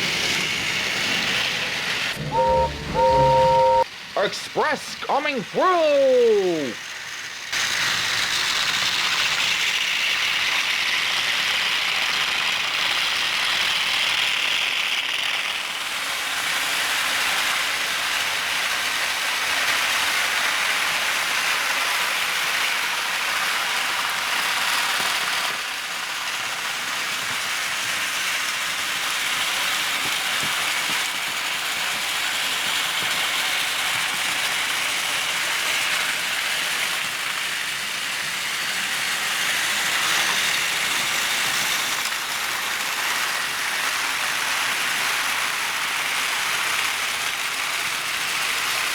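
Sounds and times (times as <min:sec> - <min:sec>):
model trains whirring on track: 0:00.0 - 0:04.2, 0:06.8 - 0:48.9.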